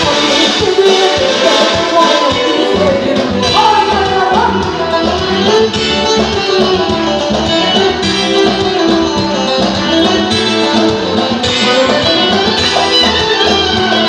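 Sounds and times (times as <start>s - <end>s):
hand drum: 0.0s - 14.0s
keyboard: 0.0s - 14.0s
violin: 0.0s - 14.0s.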